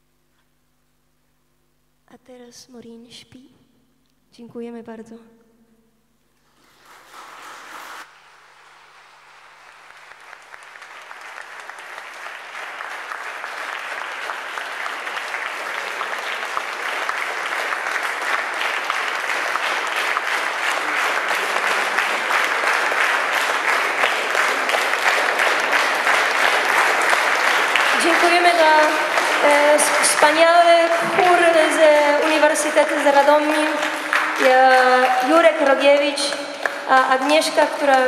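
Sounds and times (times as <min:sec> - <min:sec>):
audience applauding: 0:06.5 - 0:38.0.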